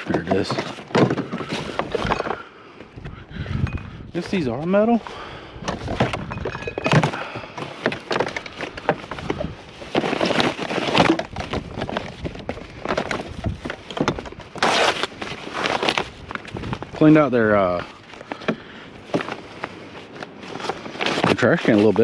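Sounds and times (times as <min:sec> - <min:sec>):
rummaging through trash can: 0:00.0 - 0:02.5, 0:04.2 - 0:22.0.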